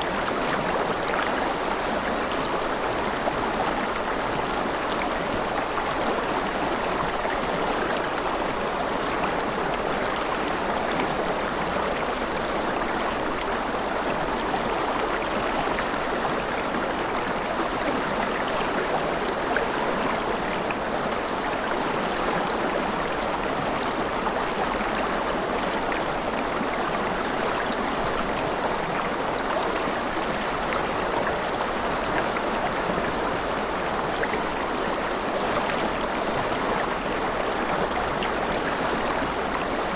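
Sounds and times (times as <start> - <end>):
river water flowing and splashing: 0.0 - 39.9.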